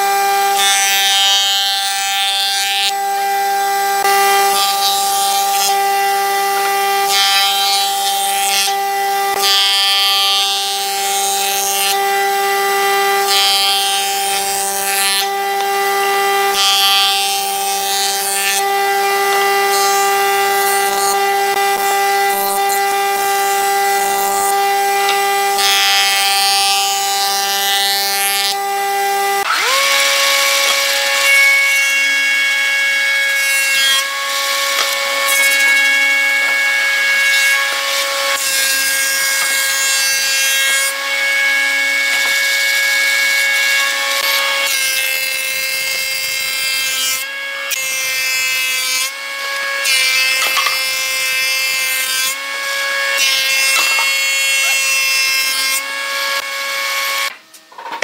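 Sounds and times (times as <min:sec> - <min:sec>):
planer machine whining: 0:00.0 - 0:58.0.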